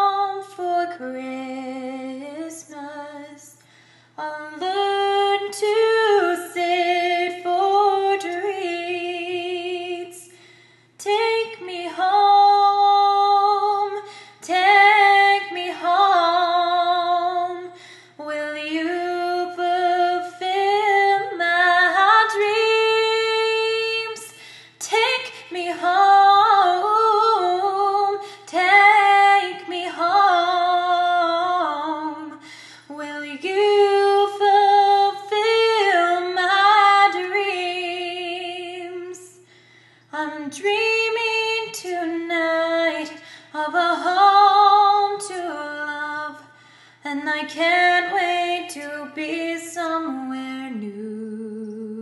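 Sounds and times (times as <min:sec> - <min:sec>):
woman singing a cappella: 0:00.0 - 0:52.0.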